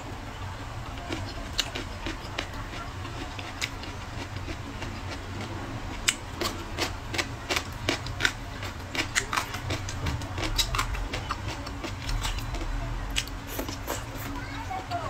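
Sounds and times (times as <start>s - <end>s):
low steady hum: 0.0s - 15.0s
crunchy chewing: 0.9s - 14.5s.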